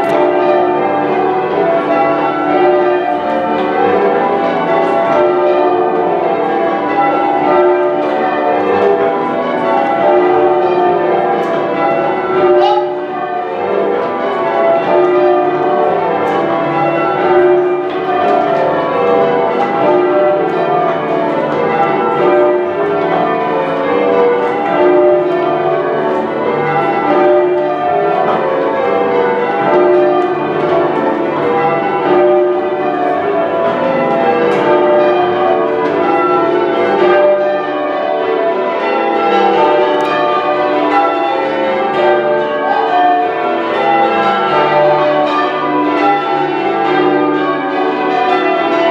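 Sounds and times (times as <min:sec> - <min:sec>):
church bells ringing: 0:00.0 - 0:48.9.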